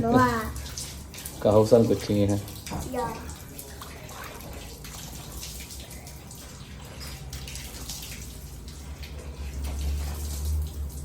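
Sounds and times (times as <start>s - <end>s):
cat lapping water: 0.0s - 11.0s.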